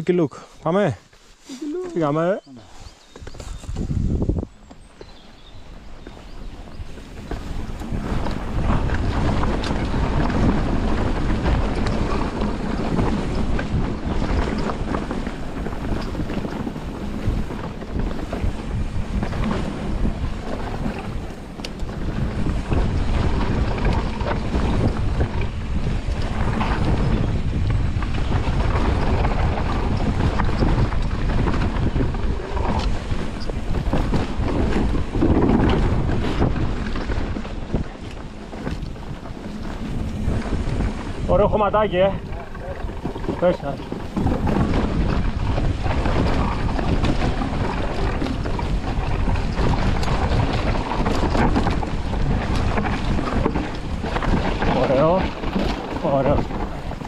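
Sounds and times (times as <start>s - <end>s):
wind buffeting microphone: 0.0s - 57.0s
bike knocking and rattling: 3.0s - 57.0s
tyres rolling on dirt: 3.0s - 57.0s.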